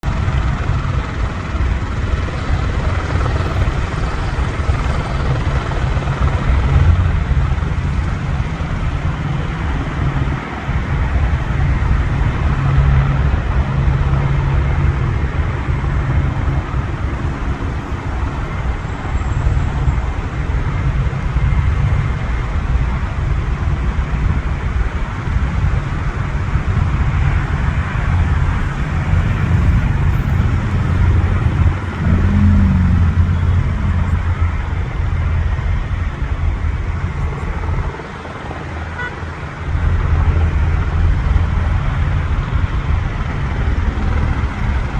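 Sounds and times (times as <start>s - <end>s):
helicopter engine rush: 0.0s - 44.9s
helicopter rotor beat: 0.0s - 44.9s.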